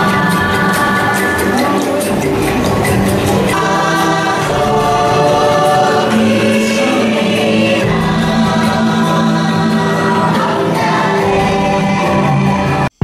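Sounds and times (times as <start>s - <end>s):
choir singing held notes: 0.0s - 13.0s.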